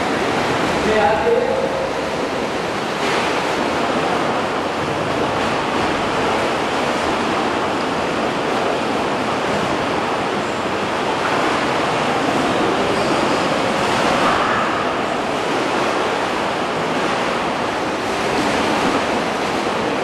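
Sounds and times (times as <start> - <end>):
water surging in a cave: 0.0 - 20.0.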